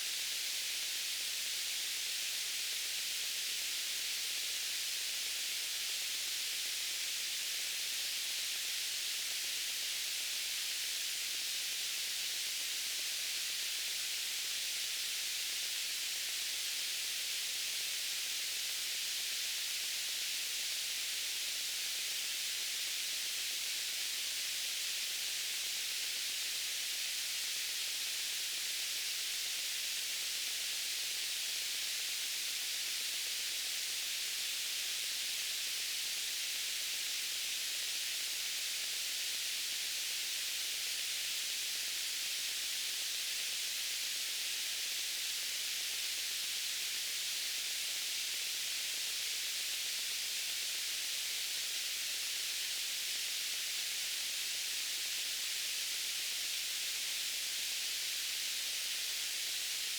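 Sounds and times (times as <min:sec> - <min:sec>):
high-pitched white noise hiss: 0:00.0 - 0:59.9.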